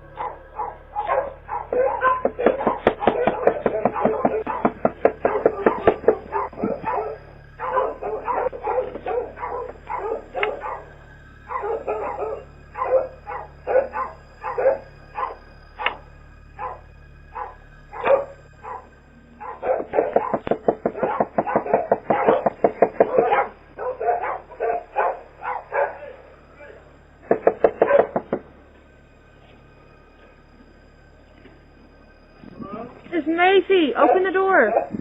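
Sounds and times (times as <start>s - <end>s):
dog barking rapidly: 0.2s - 16.0s, 16.6s - 16.8s, 17.4s - 28.4s, 34.0s - 35.0s.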